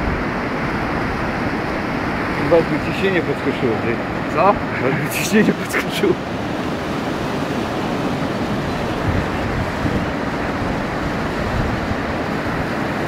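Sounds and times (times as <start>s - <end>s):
flood river rushing: 0.0s - 13.0s
wind buffeting microphone: 0.0s - 13.0s.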